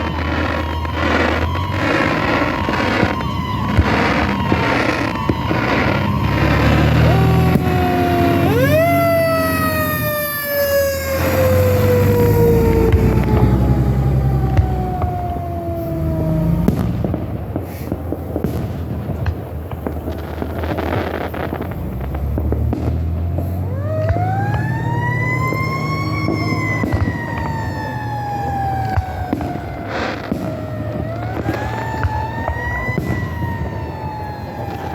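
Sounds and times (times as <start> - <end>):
siren wailing: 0.0 - 19.2, 23.6 - 34.9
sharp cracks: 0.0 - 34.9.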